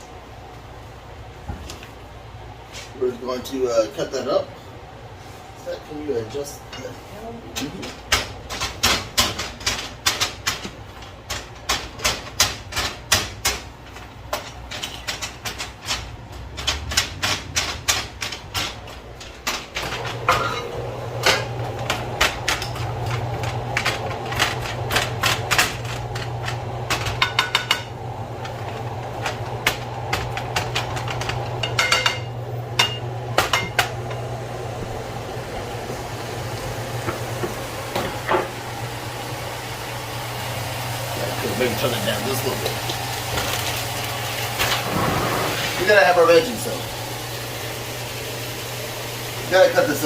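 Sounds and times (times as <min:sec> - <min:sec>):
low hum with hiss: 0:00.0 - 0:50.0.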